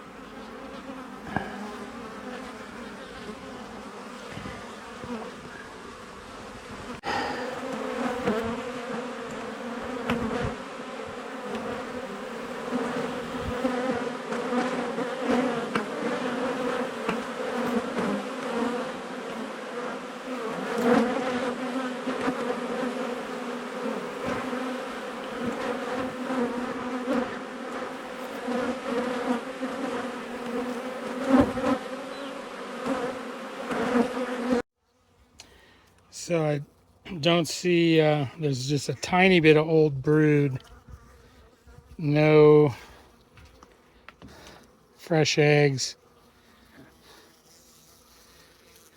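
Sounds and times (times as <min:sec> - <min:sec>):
honeybees buzzing: 0:00.0 - 0:35.4, 0:36.0 - 0:48.9.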